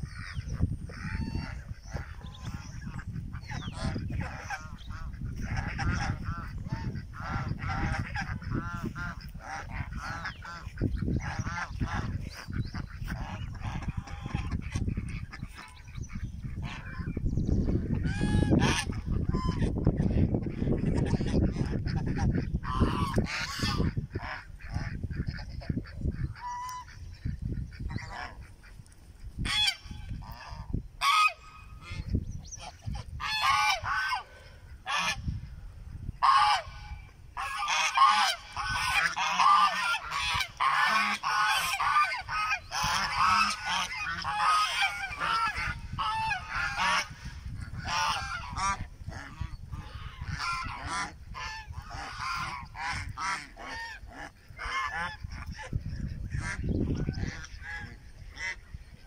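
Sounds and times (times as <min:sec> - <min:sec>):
geese honking: 0:00.0 - 0:35.4, 0:36.0 - 0:59.0.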